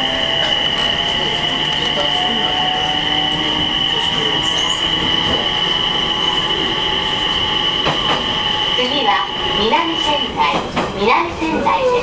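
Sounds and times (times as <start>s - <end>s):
train motor whine: 0.0s - 10.8s
wheels rumbling on rail: 0.0s - 12.0s.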